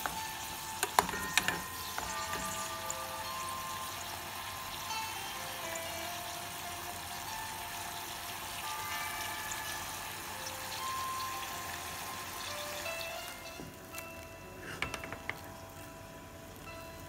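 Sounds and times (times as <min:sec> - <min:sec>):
mushrooms sizzling: 0:00.0 - 0:17.0
soft background music: 0:00.0 - 0:17.0.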